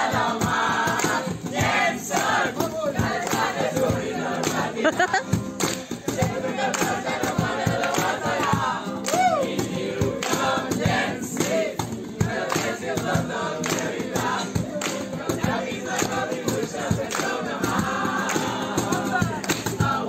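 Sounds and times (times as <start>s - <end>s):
cajon strikes: 0.0s - 20.0s
group singing loudly: 0.0s - 20.0s
guitar: 0.0s - 20.0s.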